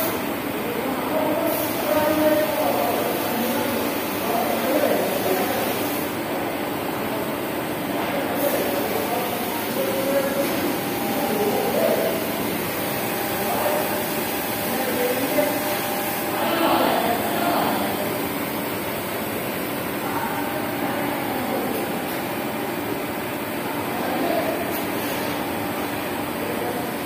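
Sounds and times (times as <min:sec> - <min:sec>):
welding machine hum and hiss: 0:00.0 - 0:27.0
faint background voices: 0:00.1 - 0:27.0.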